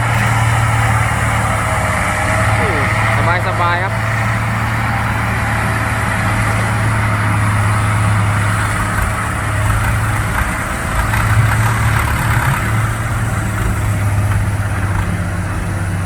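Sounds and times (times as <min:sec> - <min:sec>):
heavy diesel engine humming: 0:00.0 - 0:16.0.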